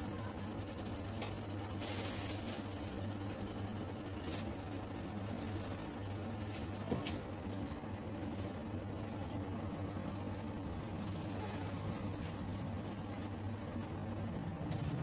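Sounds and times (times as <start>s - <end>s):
pen scratching and tapping on paper: 0.0s - 7.2s, 9.6s - 15.0s
steady low hum: 0.0s - 15.0s.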